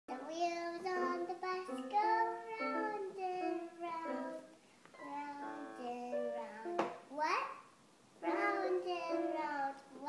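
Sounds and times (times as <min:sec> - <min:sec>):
child singing: 0:00.1 - 0:07.5, 0:08.2 - 0:10.0.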